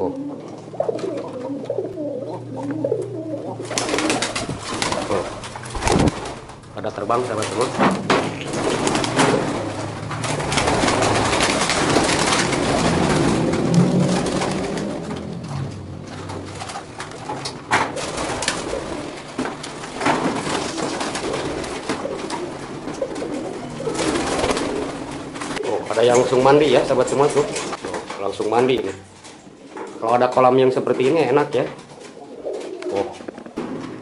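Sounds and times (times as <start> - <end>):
pigeons cooing: 0.0 - 31.0, 31.6 - 34.0.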